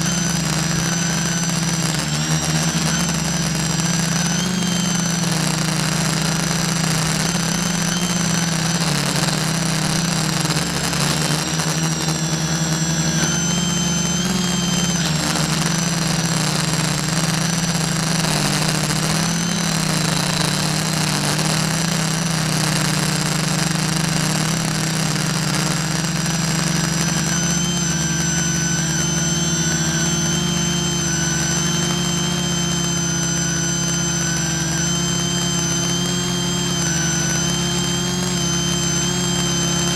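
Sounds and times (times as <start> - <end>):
drone propellers whirring: 0.0 - 39.9.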